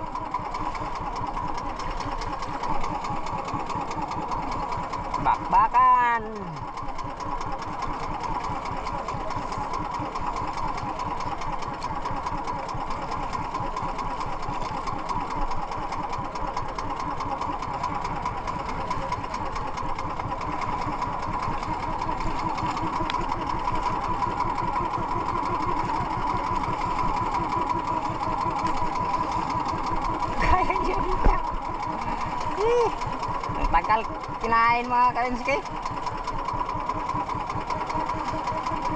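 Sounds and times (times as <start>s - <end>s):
boat engine chugging: 0.0s - 38.9s.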